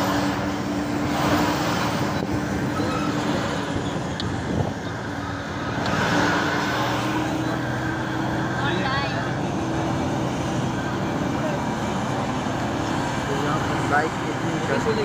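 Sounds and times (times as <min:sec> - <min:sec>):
vehicle engine and road drone: 0:00.0 - 0:15.0.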